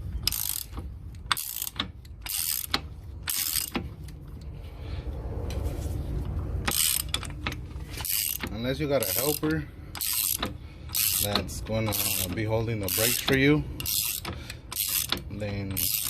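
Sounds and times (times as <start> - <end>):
socket ratchet clicking: 0.2 - 4.5, 6.6 - 16.0.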